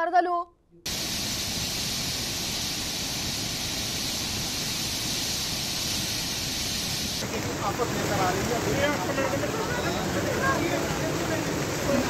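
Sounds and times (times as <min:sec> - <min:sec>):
floodwater rushing roar: 0:00.9 - 0:12.0.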